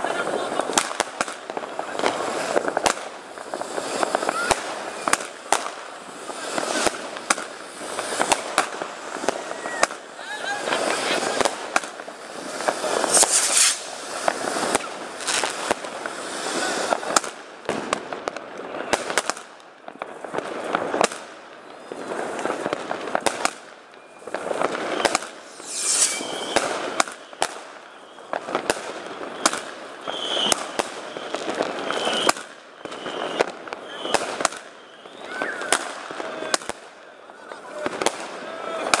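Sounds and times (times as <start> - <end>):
fireworks bursting with sharp bangs: 0.0 - 39.0.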